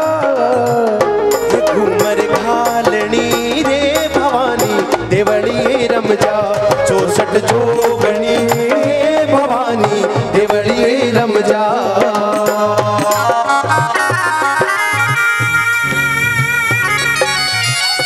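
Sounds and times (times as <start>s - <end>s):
hand drum beat: 0.0s - 18.0s
harmonium: 0.0s - 18.0s.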